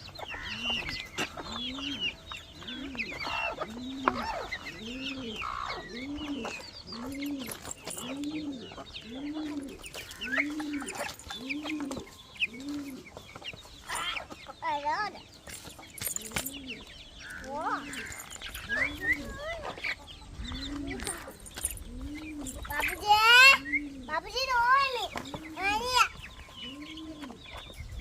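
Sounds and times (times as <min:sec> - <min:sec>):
pigeon cooing: 0:00.0 - 0:14.4, 0:16.0 - 0:28.0
chickens clucking: 0:00.0 - 0:28.0.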